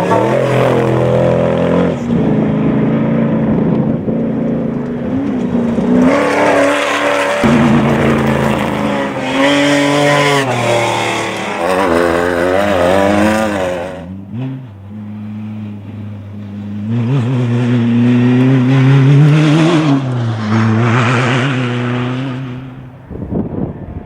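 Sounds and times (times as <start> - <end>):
race engines revving: 0.0 - 24.0.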